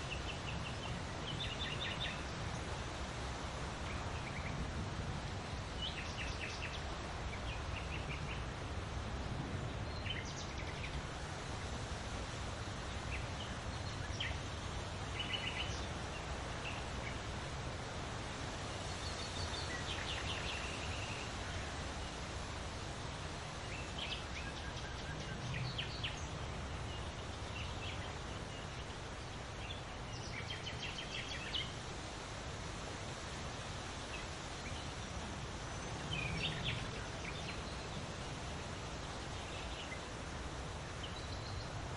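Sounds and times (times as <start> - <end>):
small birds chirping: 0.0 - 41.9
wind rustling leaves: 0.0 - 41.9.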